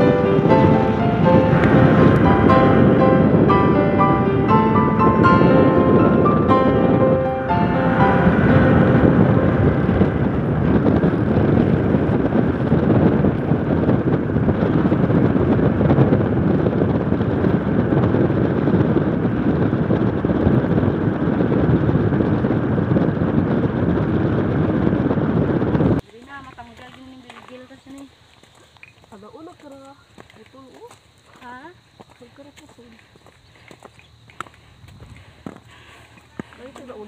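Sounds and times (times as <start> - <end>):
road and engine noise: 0.0 - 28.0, 32.3 - 37.0
wind rushing over microphone: 0.0 - 28.2, 29.1 - 37.0.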